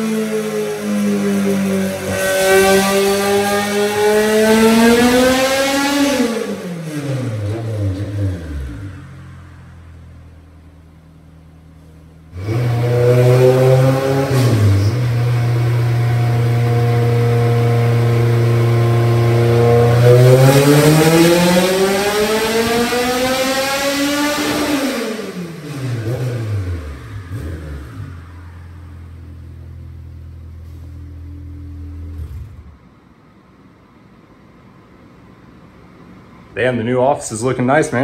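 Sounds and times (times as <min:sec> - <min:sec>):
race engine revving: 0:00.0 - 0:10.1, 0:12.3 - 0:33.0.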